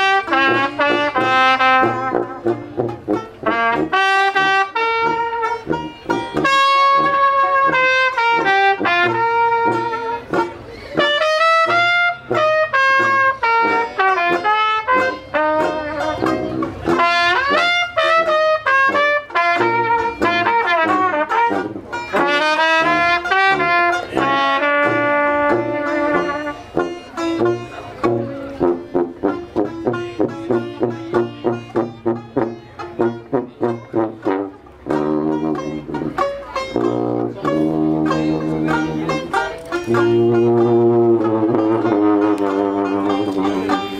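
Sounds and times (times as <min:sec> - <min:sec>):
banjo strummed chords: 0:00.0 - 0:43.9
sousaphone bass: 0:00.0 - 0:43.9
trumpet melody: 0:00.0 - 0:43.9.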